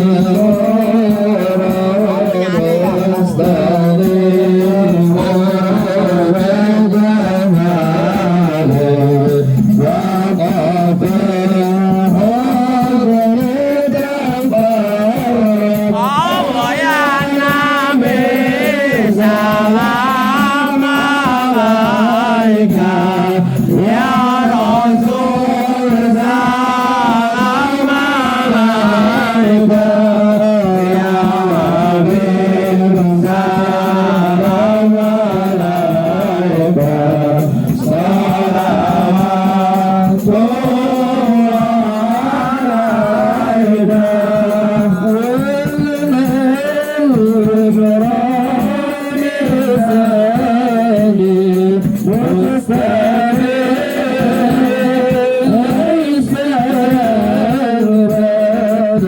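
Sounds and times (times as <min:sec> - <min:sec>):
devotional chanting: 0:00.0 - 0:59.0.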